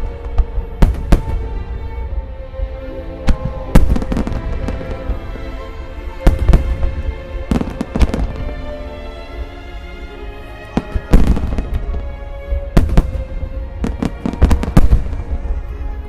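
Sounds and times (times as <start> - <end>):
steady music: 0.0 - 16.0.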